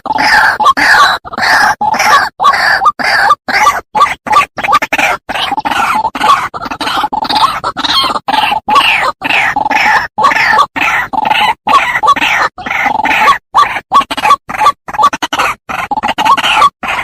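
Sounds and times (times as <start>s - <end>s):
bird harsh calls: 0.0s - 17.0s.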